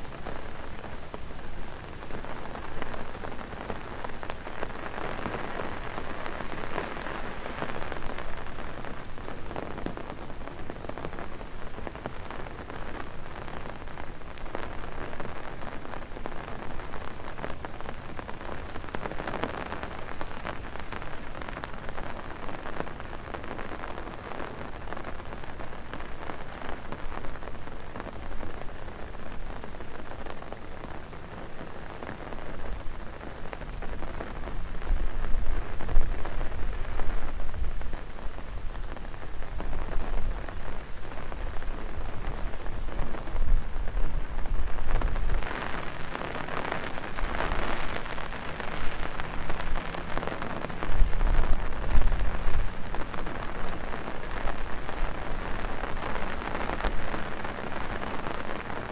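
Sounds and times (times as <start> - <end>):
heavy rain on umbrella: 0.0 - 58.9.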